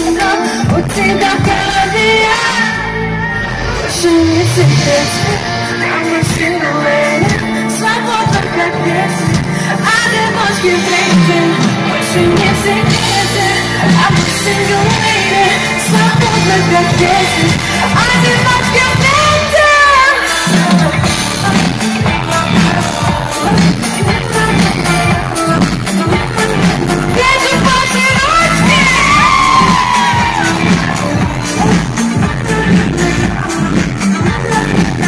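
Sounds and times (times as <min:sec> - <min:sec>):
live pop concert music: 0:00.0 - 0:35.0.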